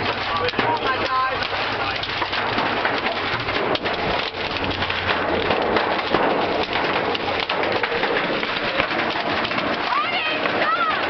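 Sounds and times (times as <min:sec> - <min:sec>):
hail and rain on car roof: 0:00.0 - 0:11.0.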